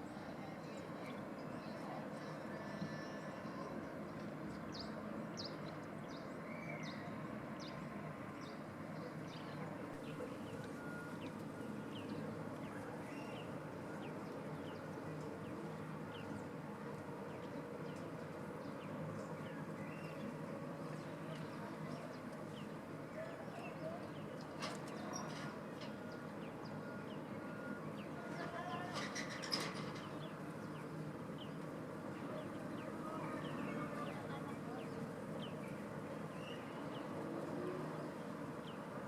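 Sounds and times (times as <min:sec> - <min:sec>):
outdoor background noise: 0:00.0 - 0:39.0.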